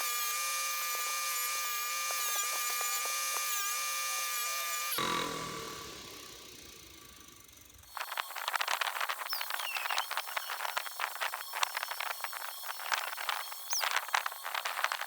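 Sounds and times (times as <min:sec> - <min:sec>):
electric power tool whining: 0:00.0 - 0:15.0.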